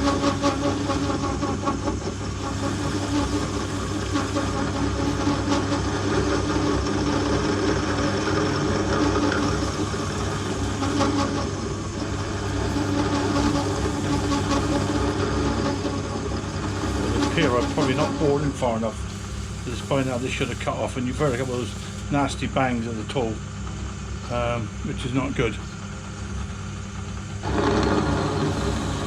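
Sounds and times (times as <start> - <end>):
lathe motor hum: 0.0 - 29.0.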